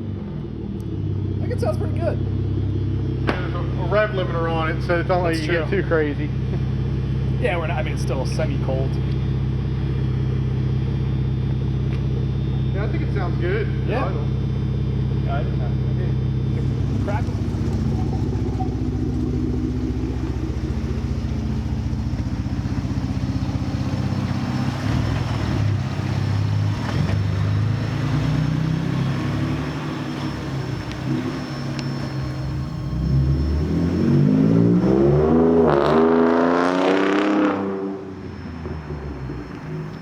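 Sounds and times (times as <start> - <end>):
truck engine idling and revving: 0.0 - 40.0.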